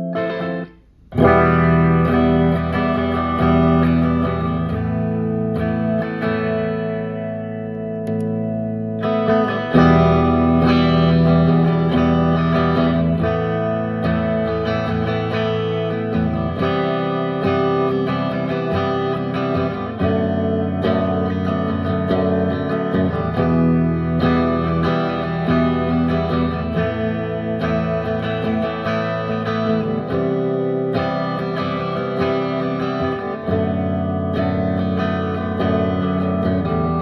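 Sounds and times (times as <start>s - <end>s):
guitar chords ringing: 0.0s - 37.0s.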